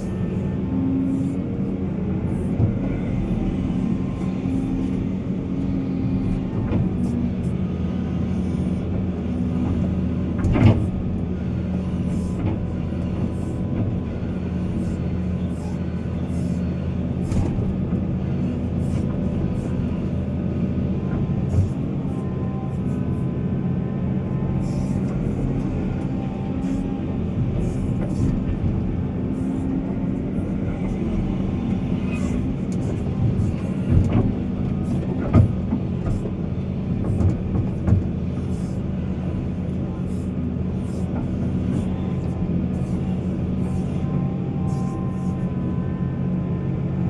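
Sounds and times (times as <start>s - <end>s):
heavy diesel engine running: 0.0s - 47.0s.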